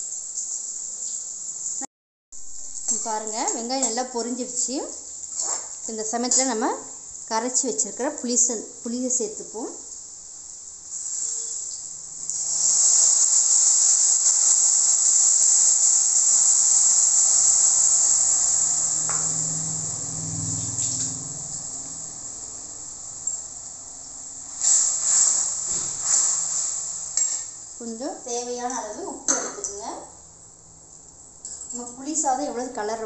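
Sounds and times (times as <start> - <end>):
liquid sizzling in hot oil: 0.0 - 32.8.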